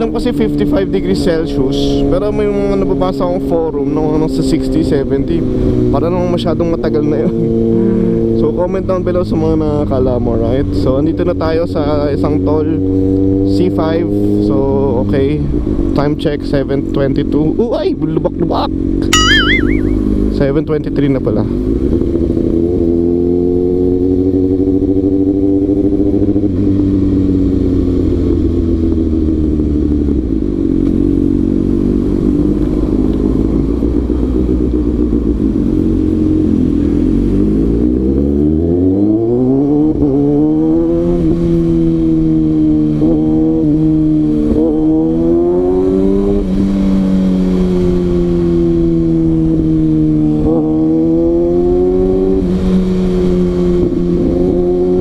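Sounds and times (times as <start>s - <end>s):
motorcycle engine revving: 0.0s - 15.9s, 21.4s - 55.0s.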